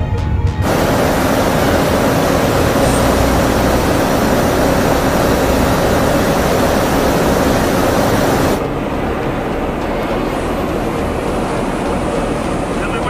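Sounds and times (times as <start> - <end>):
jet aircraft in flight: 0.6 - 13.0.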